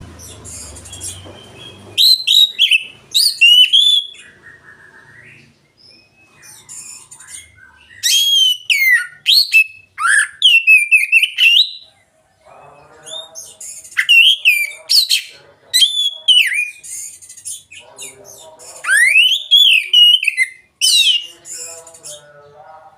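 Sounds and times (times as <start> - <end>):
bird chatter: 0.0 - 22.9
bird singing whistled phrases: 0.2 - 11.9, 13.1 - 17.9, 18.8 - 22.2.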